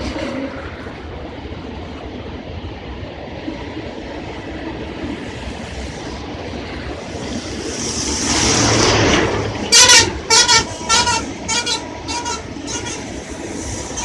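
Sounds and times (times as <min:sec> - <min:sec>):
vehicle rumble with rushing air: 0:00.0 - 0:14.0.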